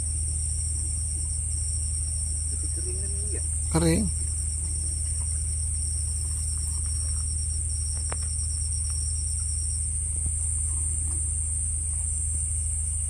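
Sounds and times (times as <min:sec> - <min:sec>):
cricket-like trill: 0:00.0 - 0:13.0
insects buzzing: 0:00.0 - 0:13.0
low hum: 0:00.0 - 0:13.0.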